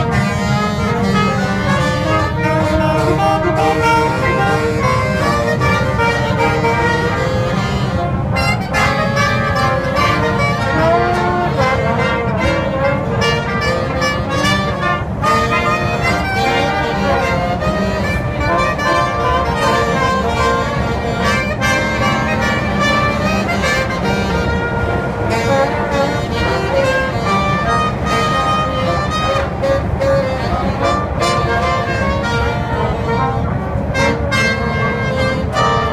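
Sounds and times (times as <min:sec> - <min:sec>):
brass band playing: 0:00.0 - 0:35.9
train low rumble: 0:00.0 - 0:35.9.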